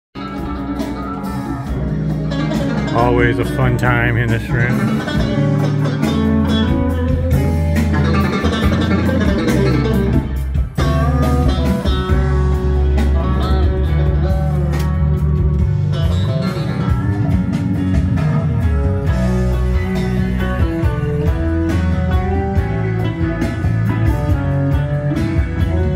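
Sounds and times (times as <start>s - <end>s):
loud music with heavy bass: 0.2s - 25.9s.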